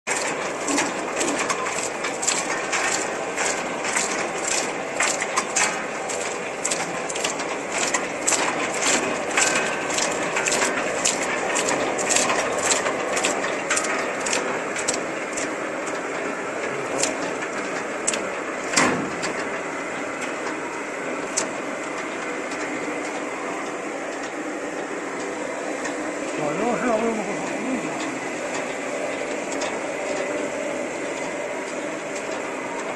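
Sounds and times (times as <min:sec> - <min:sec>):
machine clattering: 0:00.1 - 0:24.4, 0:25.2 - 0:32.9.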